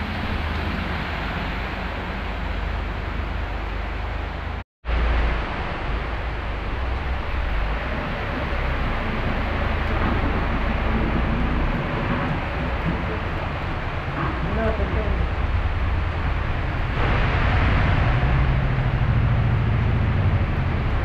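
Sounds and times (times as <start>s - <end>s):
rain hiss: 0.0s - 21.0s
vehicles passing on wet road: 0.0s - 21.0s.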